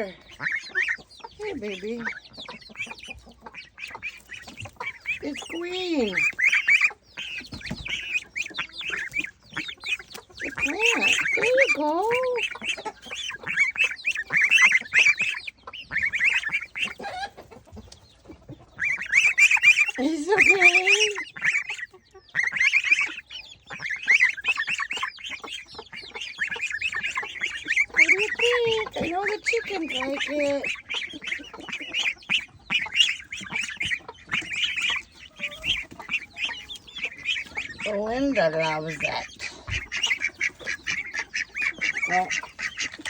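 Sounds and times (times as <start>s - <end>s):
chickens clucking: 0.0s - 43.0s
poultry squawking and chirping: 0.0s - 43.0s.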